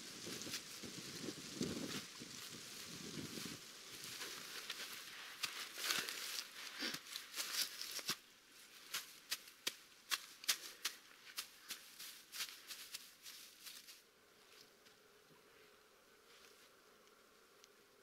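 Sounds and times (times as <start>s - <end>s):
dry grass rustling and crackling: 0.0s - 17.2s.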